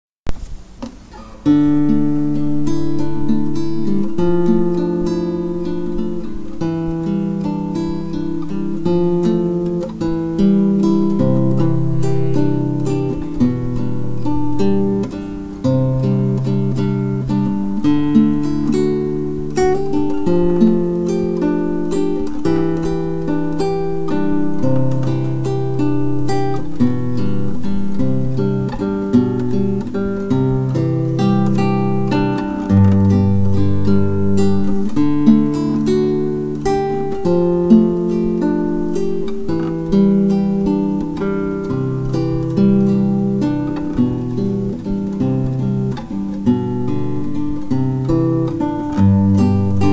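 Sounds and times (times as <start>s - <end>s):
acoustic guitar melody: 0.3s - 49.9s.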